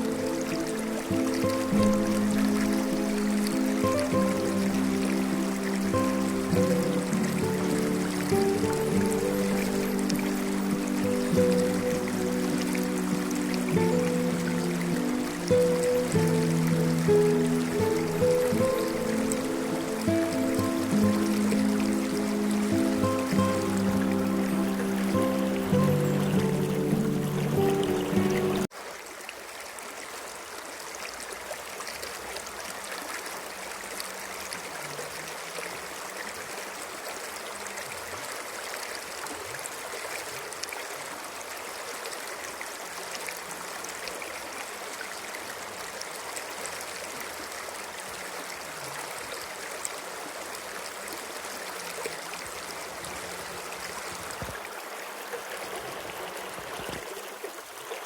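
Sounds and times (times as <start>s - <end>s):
stream water running: 0.0s - 58.0s.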